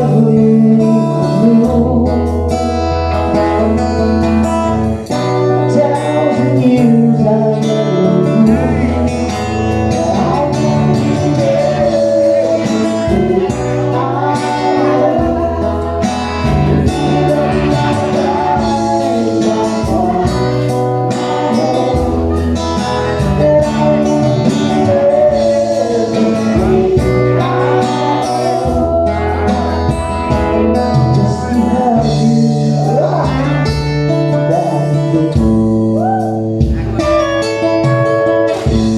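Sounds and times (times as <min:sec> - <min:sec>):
bass line: 0:00.0 - 0:38.9
guitars: 0:00.0 - 0:38.9.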